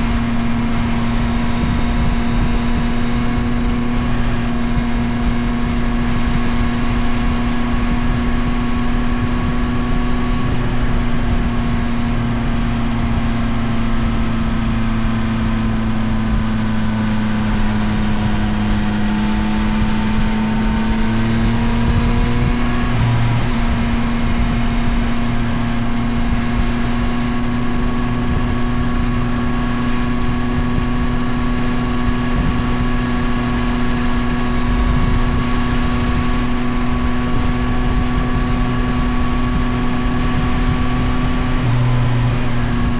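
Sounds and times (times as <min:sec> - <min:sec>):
motorcycle engine cruising: 0:00.0 - 0:42.9
wind and road noise: 0:00.0 - 0:42.9.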